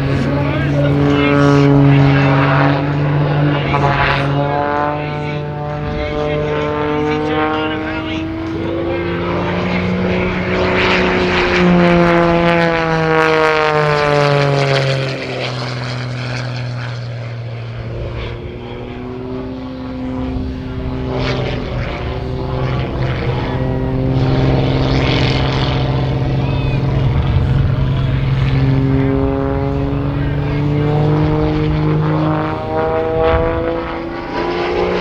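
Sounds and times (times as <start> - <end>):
propeller plane engine in flight: 0.0 - 35.0.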